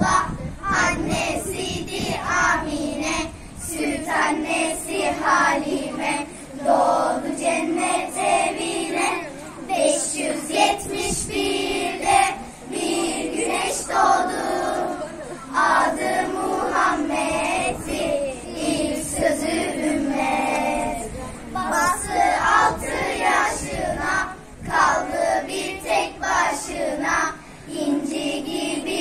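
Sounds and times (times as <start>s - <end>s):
children's choir singing a hymn: 0.0s - 29.0s.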